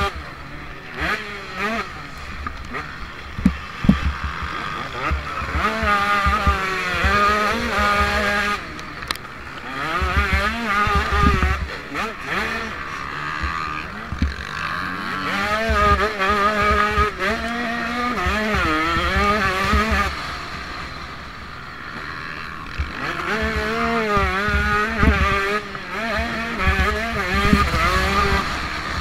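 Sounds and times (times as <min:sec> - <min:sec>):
motocross bike engine revving: 0:00.0 - 0:29.0.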